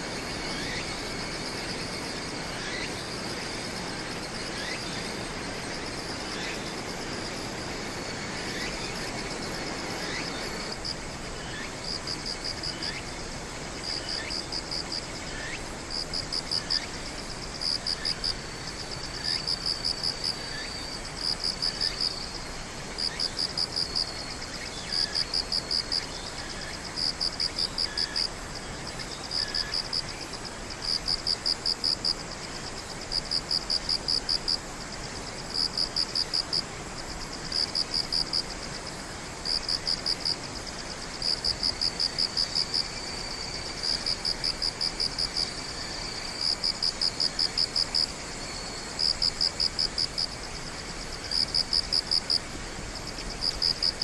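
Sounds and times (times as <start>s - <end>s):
faint insect chirps: 0.0s - 54.0s
steady high insect trill: 0.0s - 54.0s.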